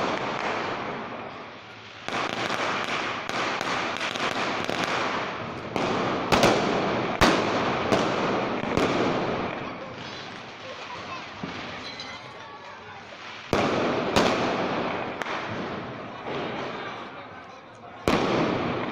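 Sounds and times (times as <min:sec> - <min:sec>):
loud firecracker bangs: 0:00.0 - 0:17.4, 0:18.0 - 0:18.9
firecrackers popping: 0:00.0 - 0:18.9.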